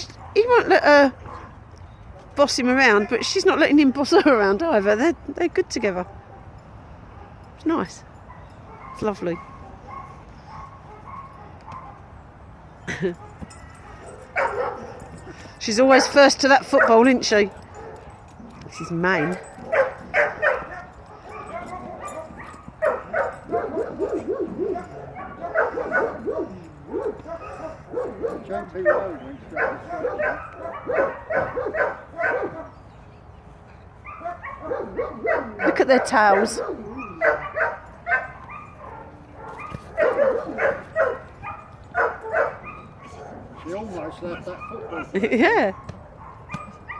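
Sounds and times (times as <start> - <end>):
dogs yipping: 0.0 - 4.4, 6.0 - 46.9
dogs whining: 8.1 - 46.9.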